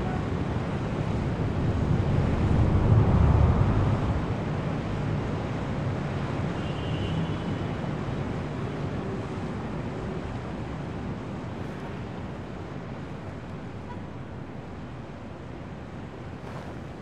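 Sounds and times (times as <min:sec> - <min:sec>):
rushing wind-like noise: 0:00.0 - 0:17.0.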